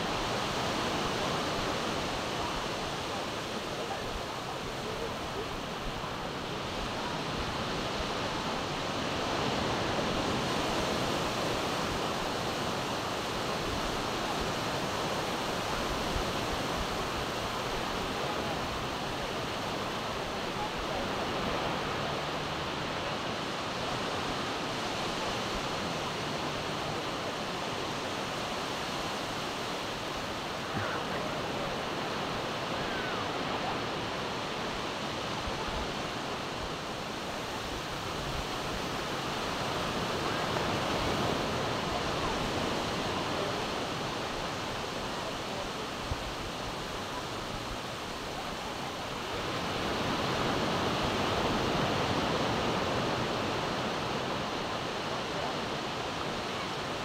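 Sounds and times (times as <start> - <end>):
sea surf breaking on beach: 0.0 - 57.0.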